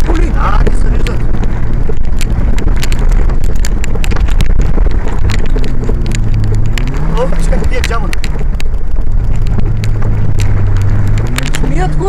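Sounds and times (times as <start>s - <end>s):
vehicle engine under load: 0.0s - 12.0s
vehicle rattles and knocks: 0.0s - 12.0s
wind buffeting microphone: 0.0s - 12.0s.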